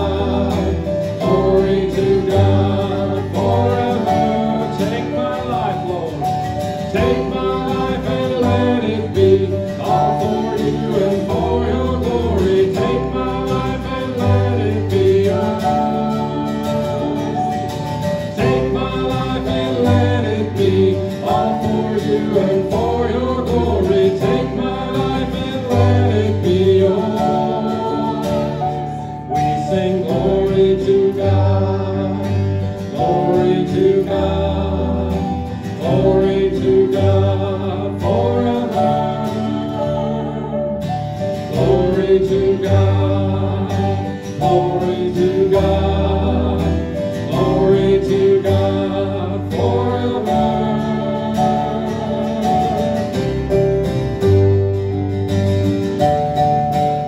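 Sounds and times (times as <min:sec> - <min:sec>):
acoustic guitar: 0:00.0 - 0:57.0
electric bass guitar: 0:00.0 - 0:57.0
keyboard: 0:00.0 - 0:57.0.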